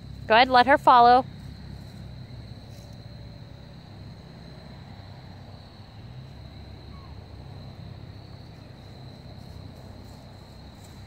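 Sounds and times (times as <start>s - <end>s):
crickets trilling: 0.0s - 11.0s
low background rumble: 0.0s - 11.0s.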